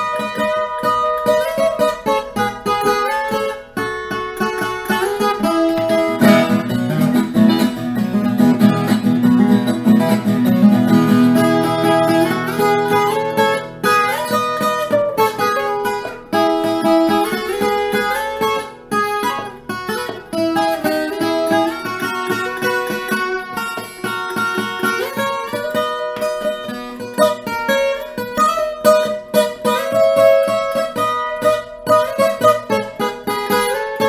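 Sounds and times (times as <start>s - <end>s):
plucked acoustic guitar: 0.0s - 34.0s.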